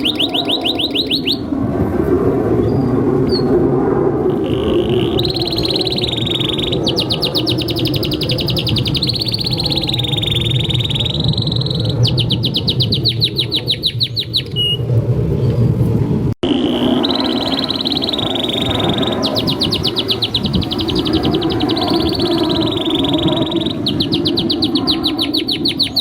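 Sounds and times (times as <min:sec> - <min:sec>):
canary singing: 0:00.0 - 0:01.5, 0:04.3 - 0:14.8, 0:16.4 - 0:26.0
steady low rumble: 0:00.0 - 0:26.0.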